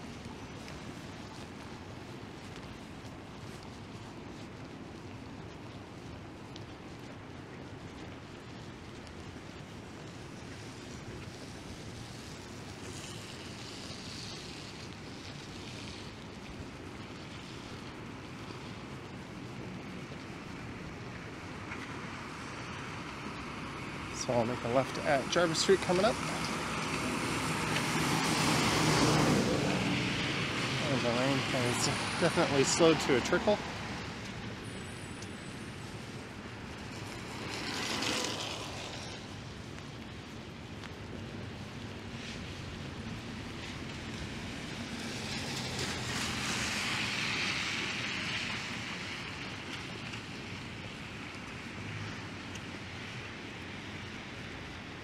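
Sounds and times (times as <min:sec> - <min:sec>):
steady street hiss: 0:00.0 - 0:55.0
tyres swishing on wet road: 0:00.0 - 0:55.0.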